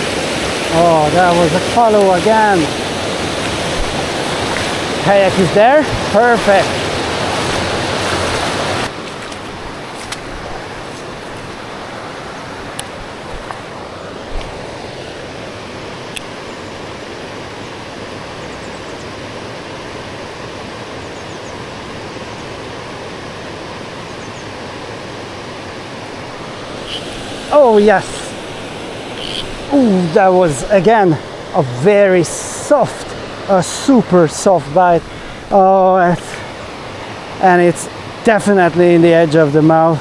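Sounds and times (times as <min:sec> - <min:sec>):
water rushing over weir: 0:00.0 - 0:40.0.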